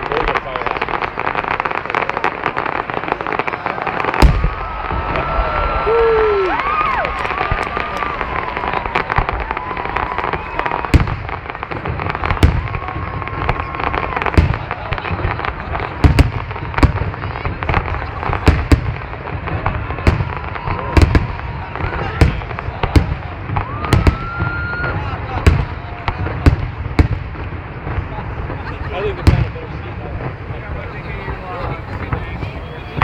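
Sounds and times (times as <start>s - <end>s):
fireworks bangs and cracks: 0.0s - 33.0s
fireworks rumble and crackle: 0.0s - 33.0s.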